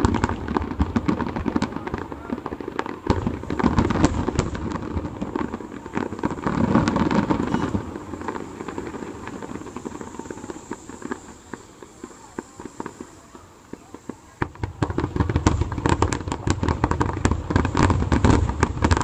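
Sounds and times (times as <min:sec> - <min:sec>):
distant fireworks bursts and crackle: 0:00.0 - 0:19.0
fireworks single pops: 0:00.0 - 0:19.0.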